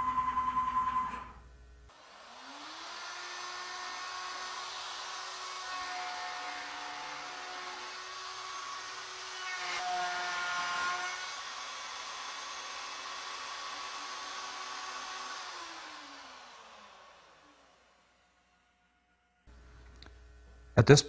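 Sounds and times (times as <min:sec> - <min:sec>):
wood router high whine: 0:01.9 - 0:19.0.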